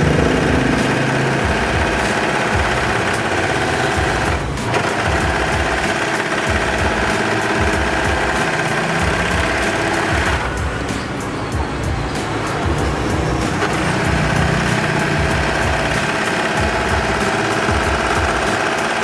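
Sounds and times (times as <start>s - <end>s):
overlock sewing machine clatter: 0.0s - 10.6s, 13.4s - 19.0s.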